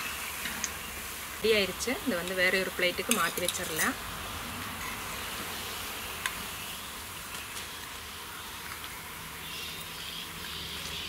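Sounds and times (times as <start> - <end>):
food deep-frying in hot oil: 0.0 - 11.0.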